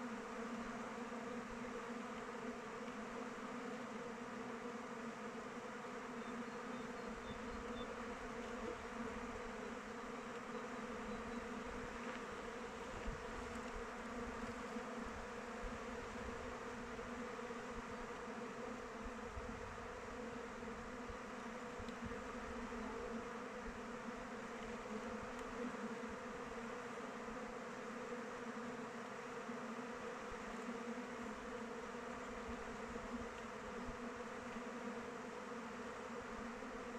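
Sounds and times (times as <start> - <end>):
bees buzzing: 0.0 - 36.9.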